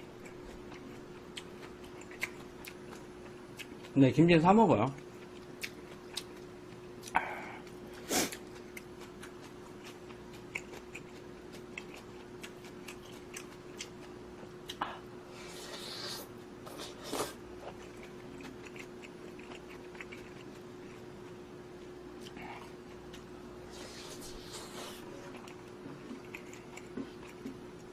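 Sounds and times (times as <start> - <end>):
steady low hum: 0.0 - 27.9
person chewing: 0.1 - 4.0, 4.9 - 27.9.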